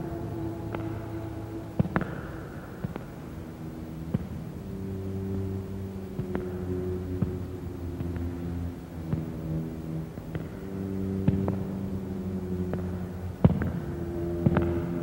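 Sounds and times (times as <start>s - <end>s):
low sustained drone chords: 0.0s - 15.0s.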